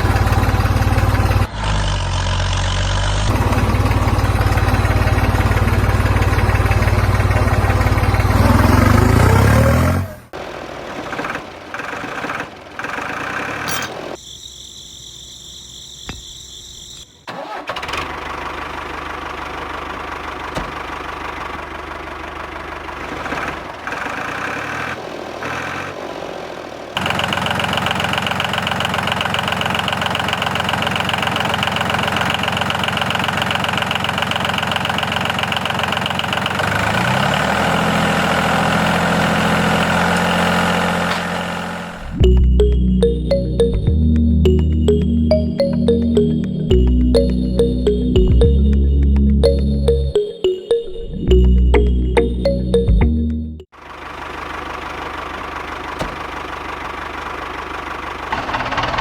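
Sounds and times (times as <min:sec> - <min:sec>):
tractor engine starting and running: 0:00.0 - 0:14.2, 0:17.3 - 0:59.0.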